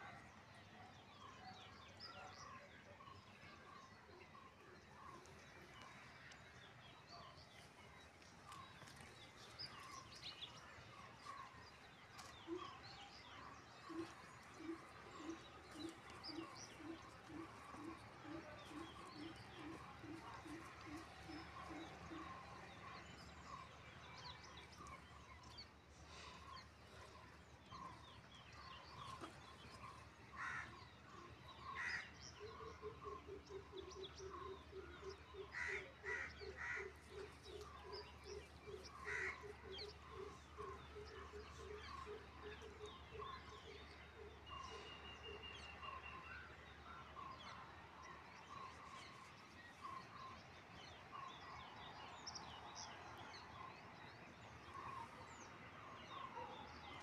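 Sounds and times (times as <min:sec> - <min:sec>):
bird chirping: 0:03.1 - 0:57.0.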